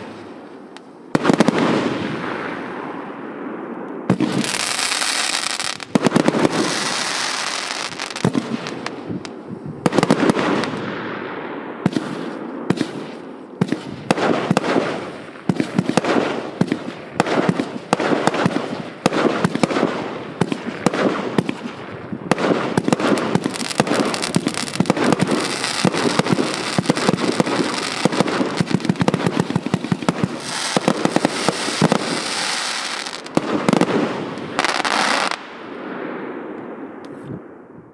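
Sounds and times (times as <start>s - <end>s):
fireworks launching and bursting: 0.0s - 37.6s.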